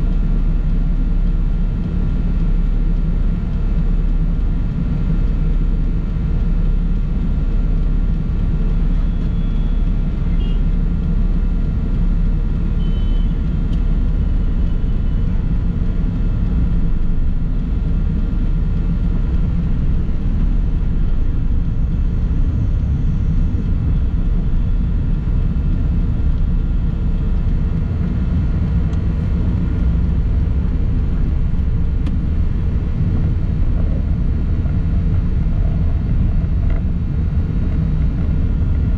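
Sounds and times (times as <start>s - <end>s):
vehicle road rumble: 0.0s - 38.9s.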